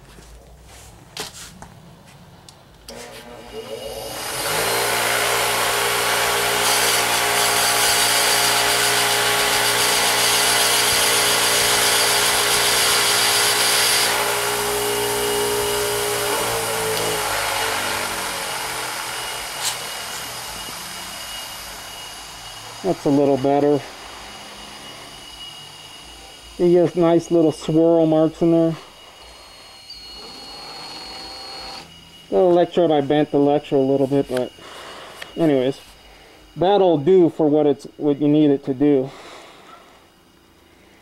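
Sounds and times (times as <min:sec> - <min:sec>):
bench grinder motor humming: 0:02.9 - 0:38.5
metal grinding hiss: 0:03.0 - 0:40.6.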